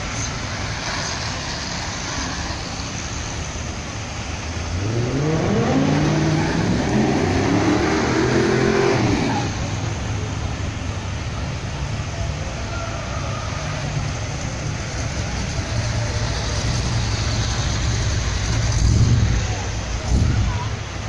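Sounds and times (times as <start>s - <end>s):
car engines driving past: 0.0s - 21.0s
crowd noise: 0.0s - 21.0s.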